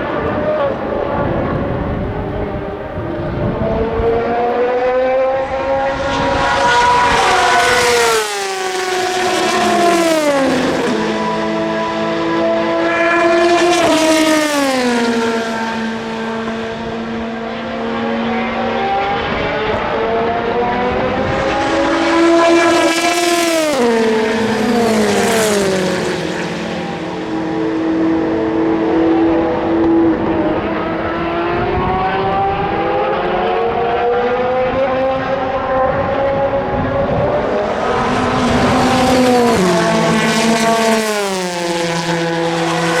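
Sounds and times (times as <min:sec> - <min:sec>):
race car engines passing: 0:00.0 - 0:43.0.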